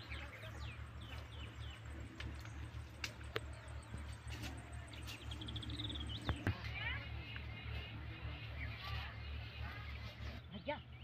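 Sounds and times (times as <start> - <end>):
birds chirping: 0.0 - 11.0
low pulsing rumble: 0.0 - 11.0.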